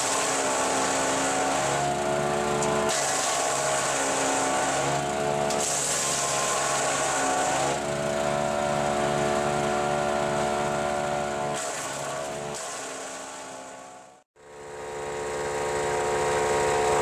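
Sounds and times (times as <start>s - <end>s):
wood chipper engine running: 0.0s - 17.0s.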